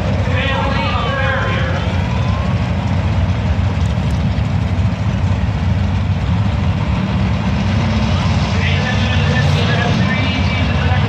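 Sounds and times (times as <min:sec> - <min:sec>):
race car engines idling: 0:00.0 - 0:11.0.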